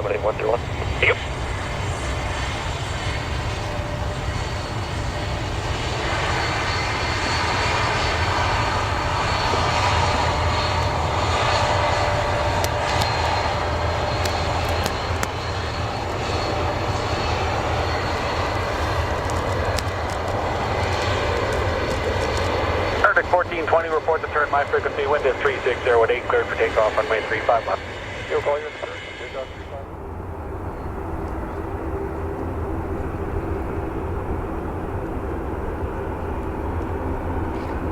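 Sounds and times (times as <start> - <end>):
airliner engines roaring: 0.0 - 37.9.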